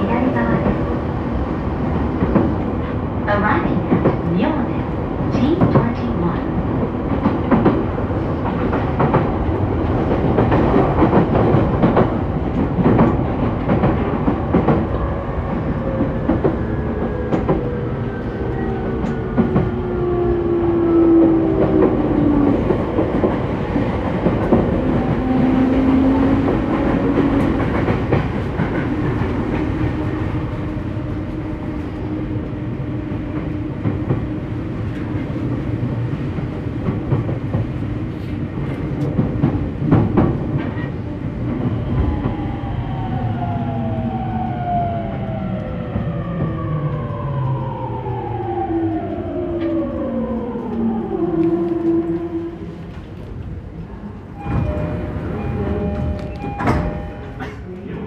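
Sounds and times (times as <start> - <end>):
train rolling noise: 0.0 - 58.0.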